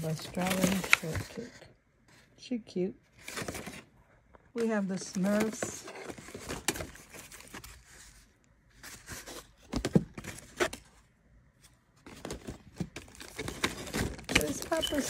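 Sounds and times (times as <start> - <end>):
plastic and card crinkling: 0.0 - 1.7, 3.2 - 11.0, 11.6 - 15.0.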